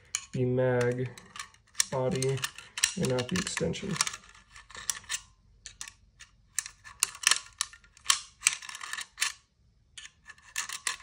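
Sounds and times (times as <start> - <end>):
screwdriver clicking and scraping metal: 0.0 - 9.4, 10.0 - 11.0.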